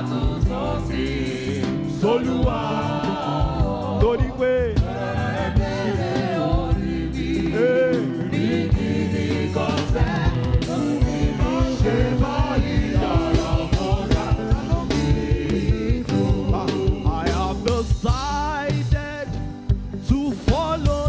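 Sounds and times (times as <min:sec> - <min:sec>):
gospel voices singing: 0:00.0 - 0:19.4, 0:20.0 - 0:21.0
band playing: 0:00.0 - 0:21.0
quick steady drum beat: 0:00.0 - 0:21.0.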